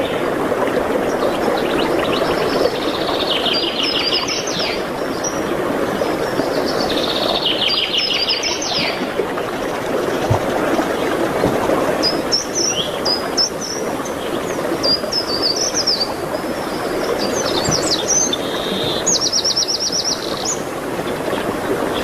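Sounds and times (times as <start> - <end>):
songbirds singing: 1.1 - 22.0.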